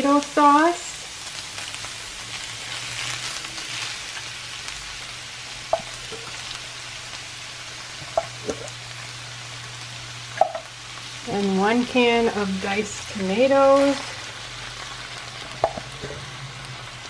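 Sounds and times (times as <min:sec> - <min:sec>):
meat sizzling in a skillet: 0:00.0 - 0:17.0.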